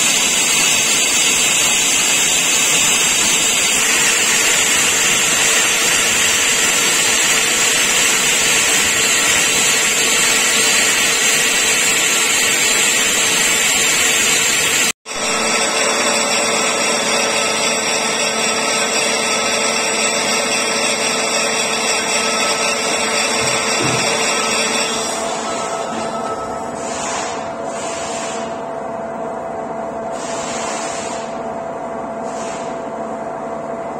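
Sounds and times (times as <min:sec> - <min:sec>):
metal lathe whining: 0:00.0 - 0:27.4.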